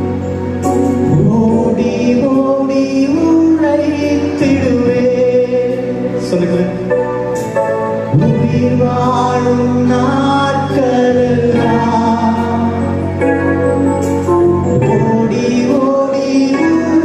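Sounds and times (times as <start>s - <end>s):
sustained accompaniment: 0.0s - 17.0s
man singing into microphone: 0.9s - 7.3s, 8.1s - 13.7s, 14.4s - 17.0s.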